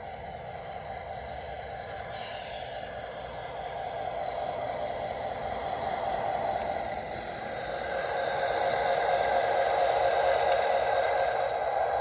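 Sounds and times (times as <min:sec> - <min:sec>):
model train motor whirring: 0:00.0 - 0:12.0.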